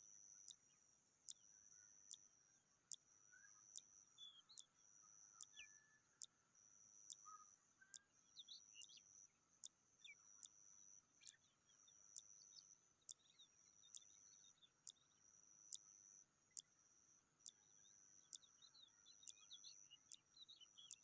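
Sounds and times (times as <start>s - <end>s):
faint bird chirps: 0.0s - 21.0s
regular ticks: 0.3s - 0.6s, 1.2s - 21.0s.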